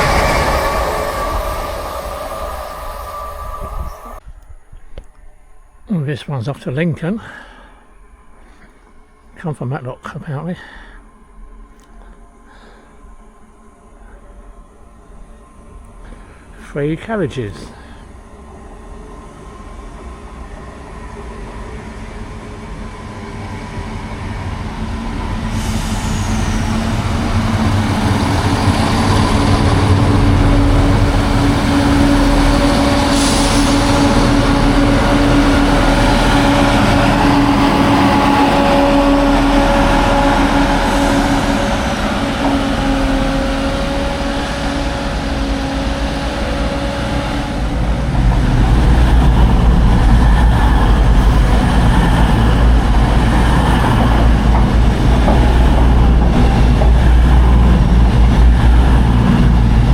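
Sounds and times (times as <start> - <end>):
diesel train engines running: 0.0 - 4.2, 5.5 - 59.9.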